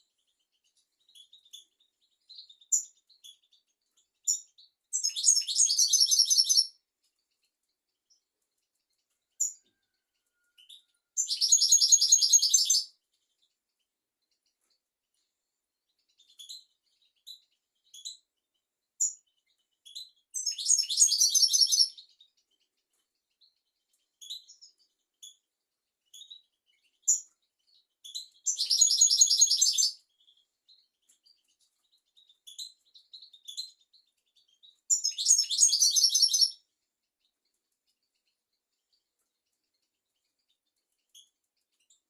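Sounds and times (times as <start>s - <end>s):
finch singing: 0.2s - 8.2s, 9.4s - 13.5s, 15.9s - 25.4s, 26.1s - 42.0s.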